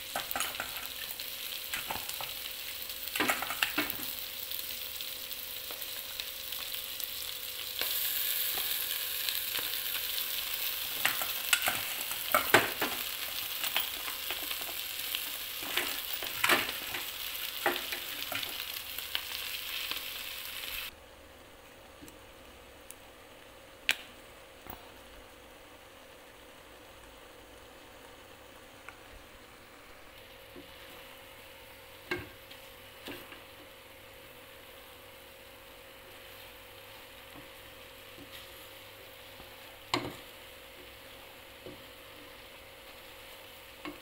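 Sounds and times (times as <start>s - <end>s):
noodles sizzling in a pot: 0.0s - 44.0s.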